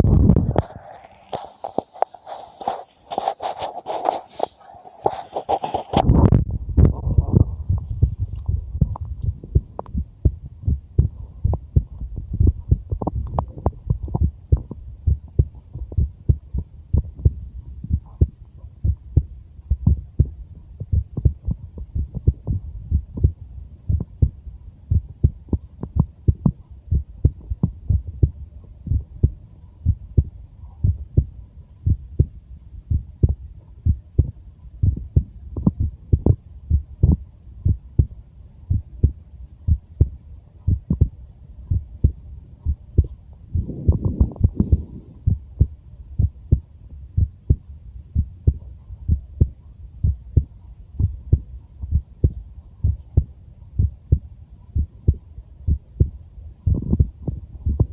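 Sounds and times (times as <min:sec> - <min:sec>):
heartbeat thuds: 0:00.0 - 0:00.8, 0:05.0 - 0:57.9
low background rumble: 0:00.0 - 0:57.9.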